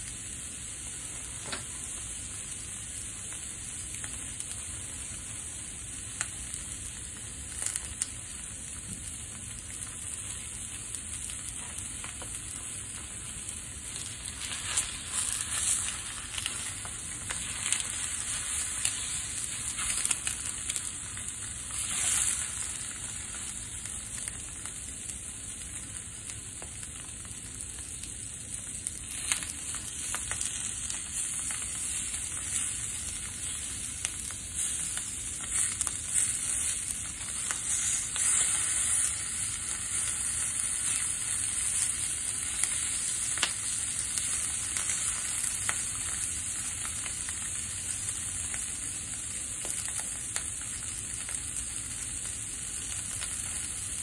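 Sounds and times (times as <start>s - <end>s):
meat and eggs sizzling in a pan: 0.0s - 54.0s
small crackles: 0.1s - 54.0s.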